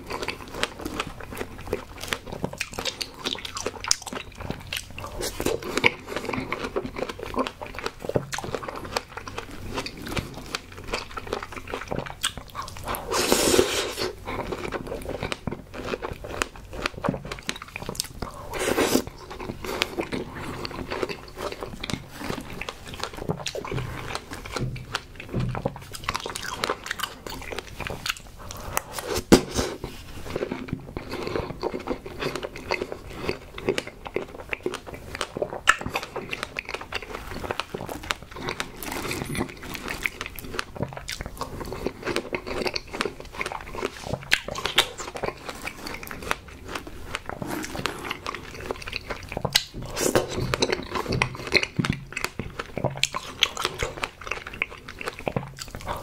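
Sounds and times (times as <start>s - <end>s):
chewing smacks and clicks: 0.0s - 13.2s, 14.2s - 28.9s, 30.4s - 56.0s.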